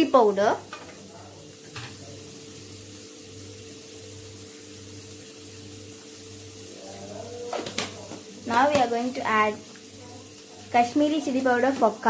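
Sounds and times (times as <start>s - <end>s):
onions sizzling in butter: 0.0s - 12.0s.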